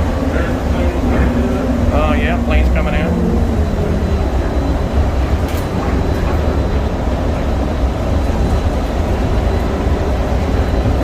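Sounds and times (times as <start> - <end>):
train interior low rumble: 0.0 - 11.0.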